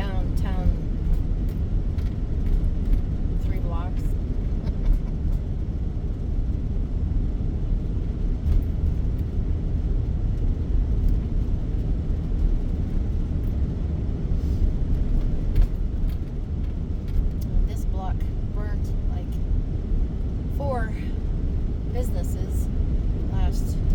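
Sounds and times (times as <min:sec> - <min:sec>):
van engine and road rumble: 0:00.0 - 0:23.9.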